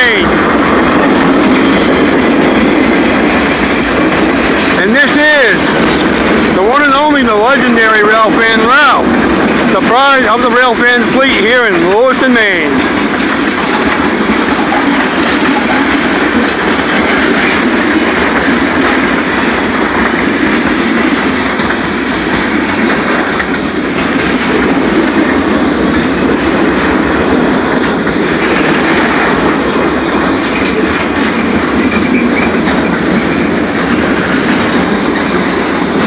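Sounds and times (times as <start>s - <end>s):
train wheels rolling on rails: 0.0s - 36.0s.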